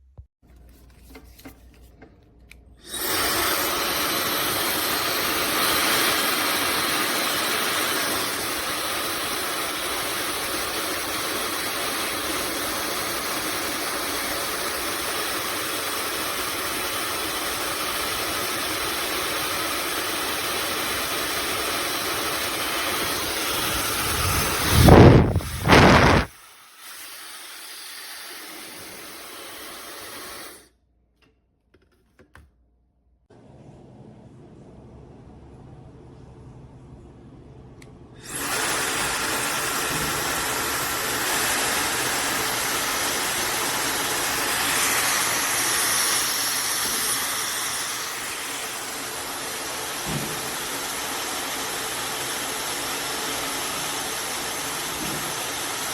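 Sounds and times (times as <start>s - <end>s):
hair dryer blowing: 2.8s - 30.7s, 37.8s - 55.9s.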